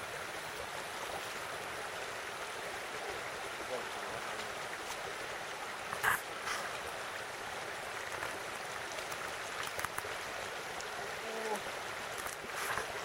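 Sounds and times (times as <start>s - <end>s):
shallow stream running: 0.0s - 13.0s.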